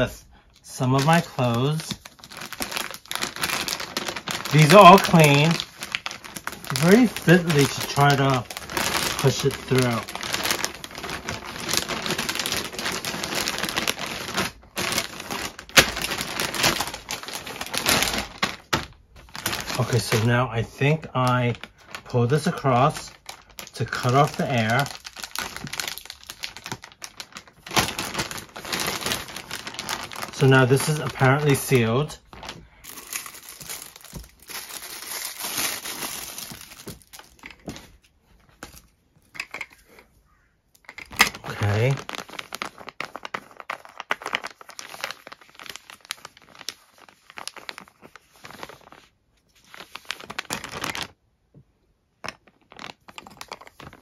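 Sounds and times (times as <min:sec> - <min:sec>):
plastic bag crinkling and rustling: 0:00.0 - 0:51.2, 0:52.2 - 0:54.0.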